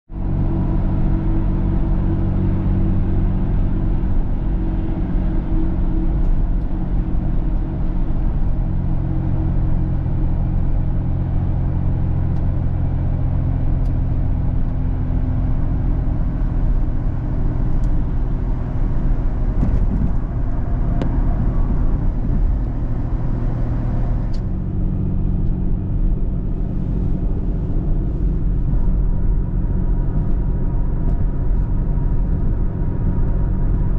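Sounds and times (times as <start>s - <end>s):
car engine and road drone: 0.1s - 33.9s.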